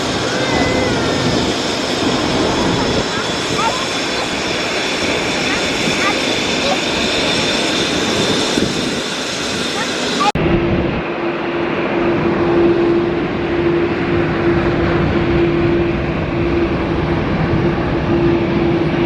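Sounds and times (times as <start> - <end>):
jet engine drone: 0.0 - 19.0.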